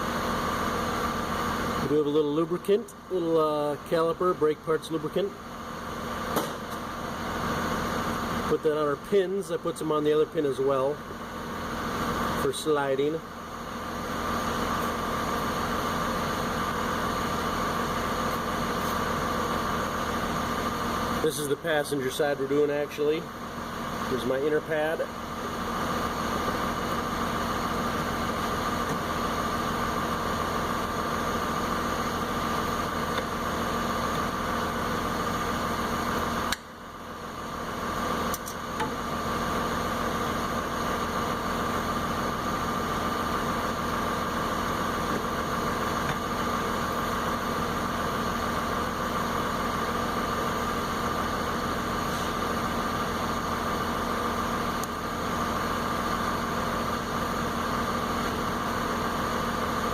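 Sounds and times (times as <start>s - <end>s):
mechanical hum with whine: 0.0s - 59.9s.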